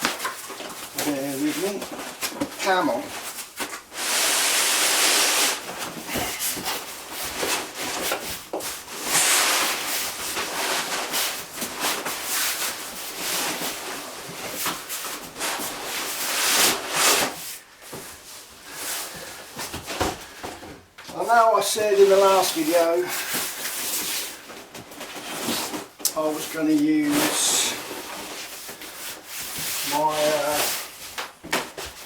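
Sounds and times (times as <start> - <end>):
packaging rustling and crinkling: 0.0 - 32.0.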